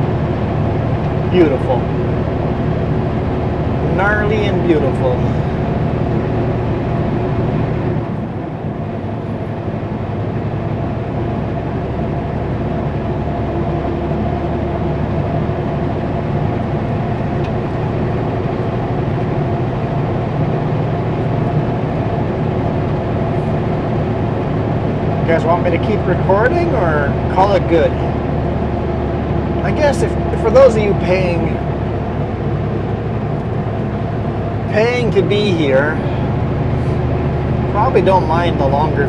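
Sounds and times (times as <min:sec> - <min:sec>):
road noise: 0:00.0 - 0:39.0
truck diesel engine running: 0:00.0 - 0:39.0.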